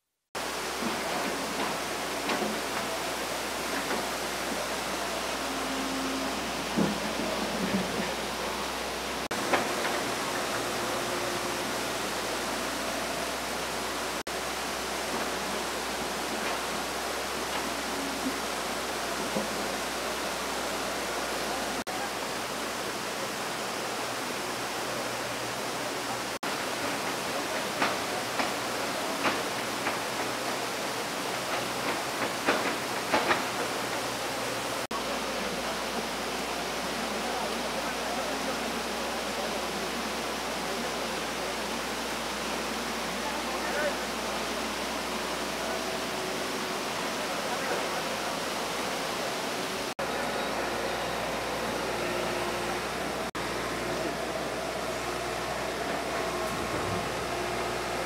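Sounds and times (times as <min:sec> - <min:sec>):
floodwater rushing over rocks: 0:00.4 - 0:58.0
faint voices: 0:00.5 - 0:14.2, 0:15.1 - 0:58.0.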